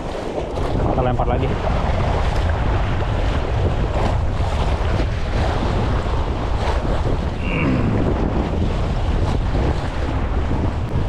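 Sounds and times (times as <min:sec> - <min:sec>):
waves splashing against rocks: 0:00.0 - 0:11.0
wind buffeting microphone: 0:00.0 - 0:11.0.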